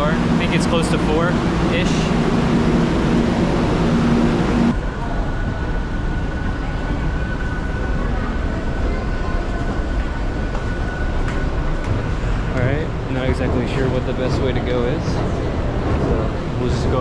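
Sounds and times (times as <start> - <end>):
crowd noise: 0.0 - 17.0
train electric hum: 0.0 - 17.0.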